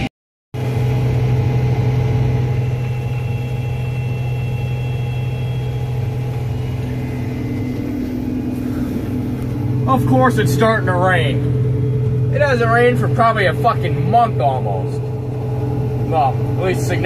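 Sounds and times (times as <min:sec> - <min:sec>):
combine harvester engine hum: 0:00.6 - 0:17.0
faint steady whines: 0:00.6 - 0:17.0.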